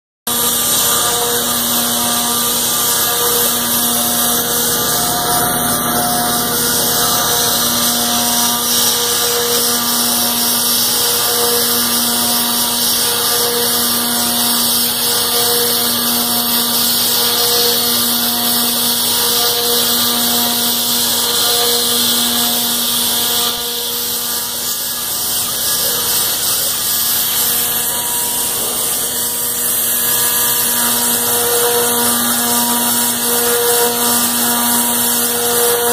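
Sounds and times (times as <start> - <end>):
router cutting metal: 0.2 - 35.9
pulsing hum: 0.3 - 35.9.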